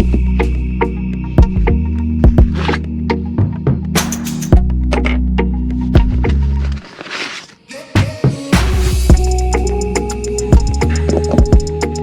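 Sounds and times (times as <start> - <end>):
background music with beat: 0.0 - 6.6, 8.0 - 12.0.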